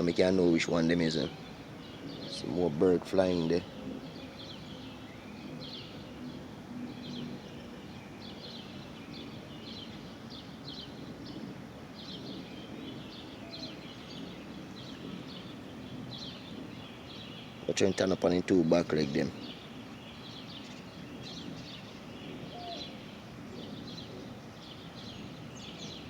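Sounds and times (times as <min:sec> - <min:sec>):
birds chirping: 0:00.0 - 0:26.0
outdoor background noise: 0:00.0 - 0:26.0.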